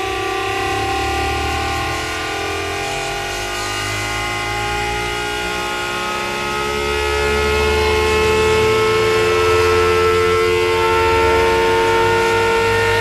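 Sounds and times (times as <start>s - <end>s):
synthesizer drone: 0.0s - 13.0s.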